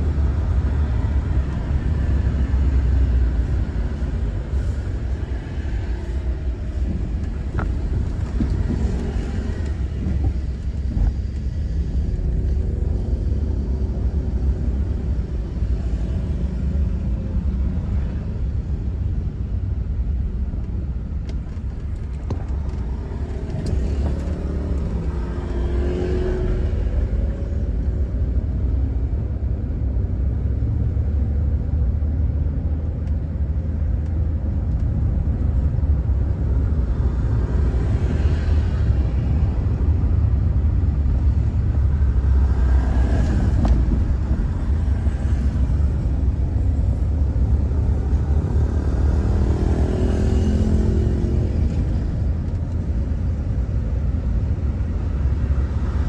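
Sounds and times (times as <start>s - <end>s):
car cabin road rumble: 0.0s - 56.0s
vehicles passing: 0.0s - 56.0s.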